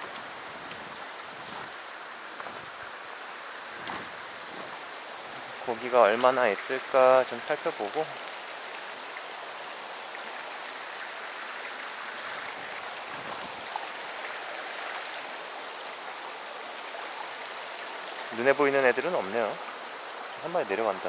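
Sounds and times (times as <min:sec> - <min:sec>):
stream running over rocks: 0:00.0 - 0:21.0.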